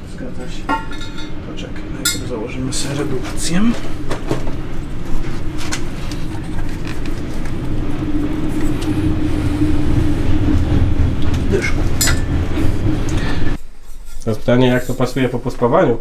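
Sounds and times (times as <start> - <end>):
machine droning: 0.0 - 14.2.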